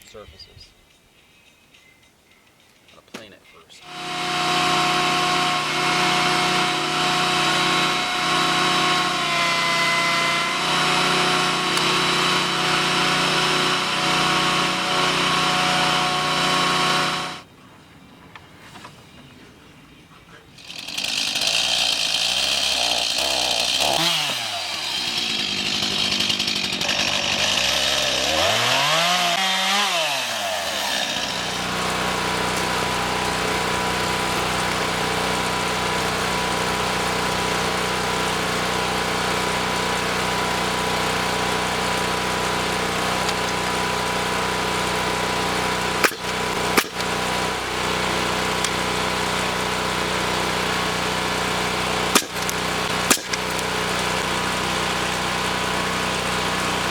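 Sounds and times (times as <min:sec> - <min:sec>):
power tool motor running: 0:03.8 - 0:17.5, 0:20.6 - 0:56.9.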